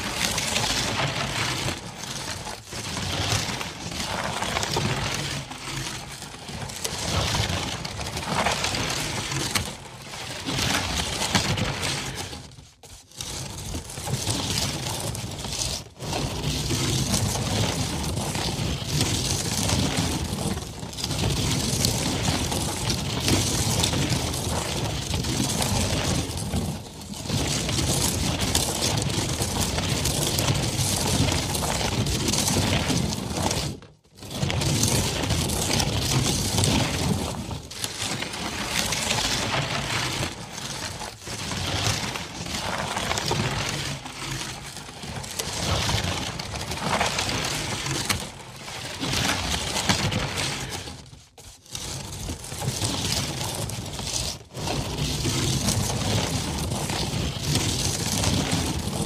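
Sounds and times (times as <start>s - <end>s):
wheels crunching over dirt: 0.0s - 12.4s, 13.2s - 51.0s, 51.8s - 59.0s.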